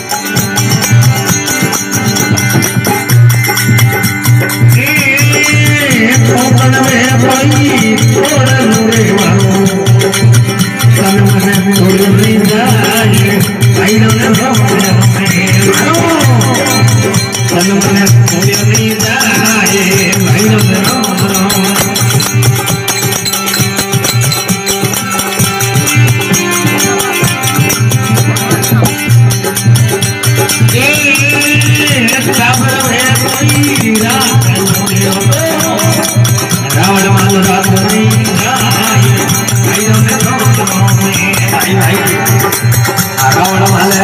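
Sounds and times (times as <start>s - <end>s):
hand drum beat: 0.0s - 44.0s
harmonium melody: 0.0s - 44.0s
jingling hand percussion: 0.0s - 44.0s.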